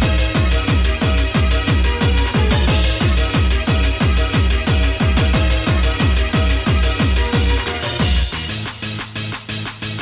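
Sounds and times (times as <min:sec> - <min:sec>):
fast pounding kick drum: 0:00.0 - 0:10.0
synth chords: 0:00.0 - 0:10.0.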